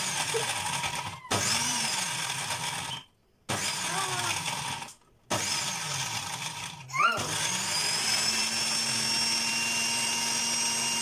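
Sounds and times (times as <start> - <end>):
blender grinding biscuits: 0.0 - 11.0.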